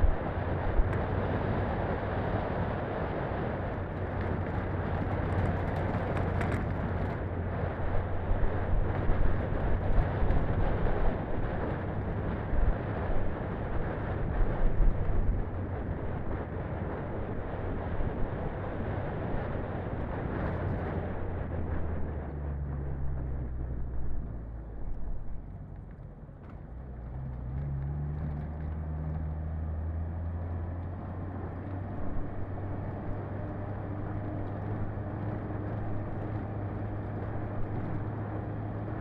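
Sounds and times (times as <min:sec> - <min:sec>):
engine drone: 0:00.0 - 0:39.0.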